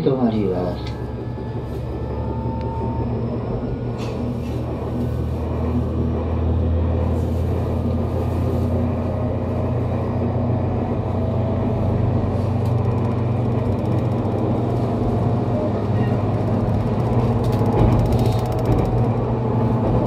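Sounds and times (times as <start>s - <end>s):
train wheels and motors rumbling: 0.0s - 20.0s.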